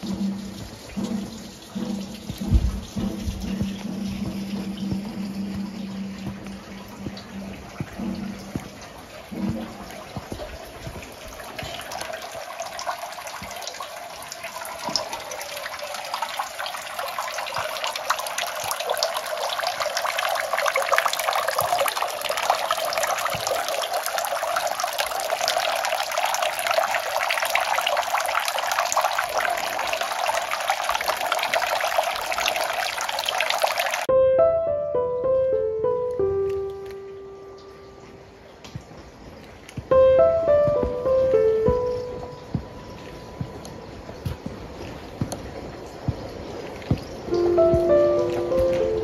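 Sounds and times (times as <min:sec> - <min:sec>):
running water splashing: 0:00.0 - 0:34.1, 0:36.2 - 0:49.0.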